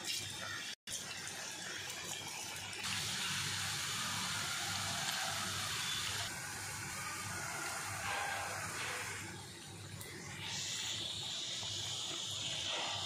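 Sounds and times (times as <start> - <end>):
fritters deep-frying in oil: 0.0 - 13.0.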